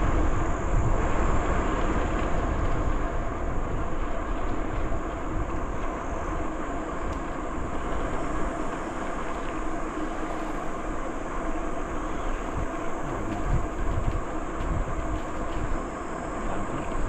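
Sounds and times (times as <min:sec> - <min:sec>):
wind buffeting microphone: 0:00.0 - 0:17.0
bicycle tyres on trail: 0:01.4 - 0:17.0.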